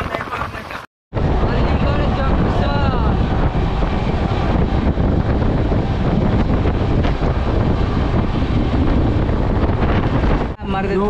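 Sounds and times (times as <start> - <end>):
wind buffeting microphone: 0.0 - 11.0
train wheels rumbling on rails: 1.2 - 10.6.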